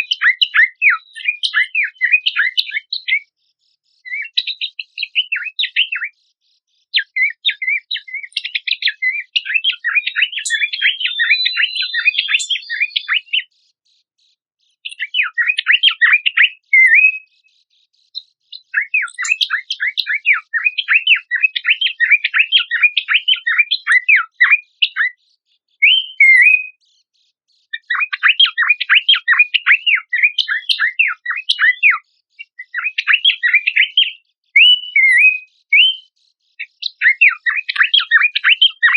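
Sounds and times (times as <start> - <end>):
bird chattering chirps: 0.0 - 14.0, 14.7 - 38.9.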